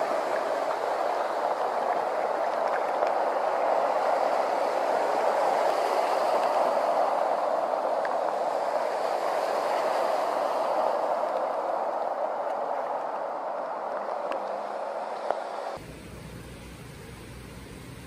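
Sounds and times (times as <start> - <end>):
cars driving through floodwater: 0.0 - 15.8.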